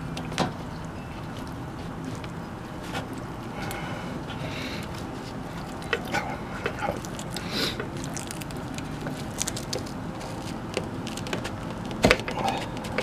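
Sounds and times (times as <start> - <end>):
pizza cutter crunching crust: 1.3 - 13.0.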